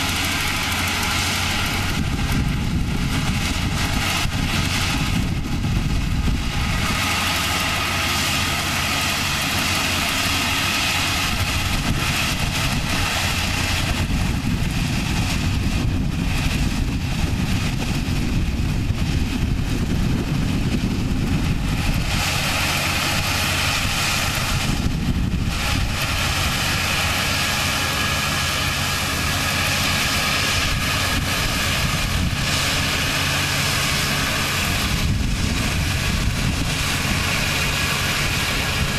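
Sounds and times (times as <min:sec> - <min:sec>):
combine harvester engine drone: 0:00.0 - 0:38.9
cutting and threshing machinery: 0:00.0 - 0:38.9.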